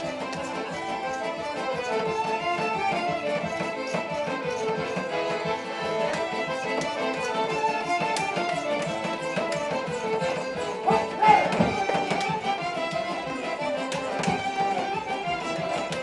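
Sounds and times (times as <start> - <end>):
accordion: 0.0 - 16.0
violins: 0.0 - 16.0.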